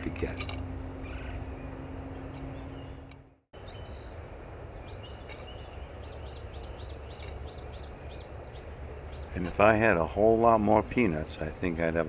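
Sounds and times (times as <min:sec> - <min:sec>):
low outdoor background noise: 0:00.0 - 0:12.0
bird chirping: 0:00.4 - 0:10.3.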